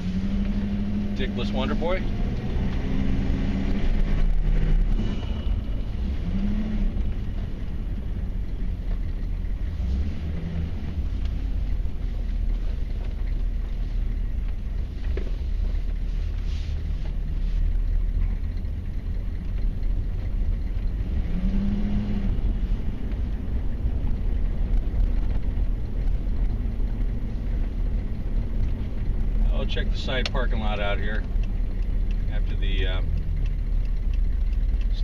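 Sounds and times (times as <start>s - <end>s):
diesel engine drone from cab: 0.0s - 35.0s.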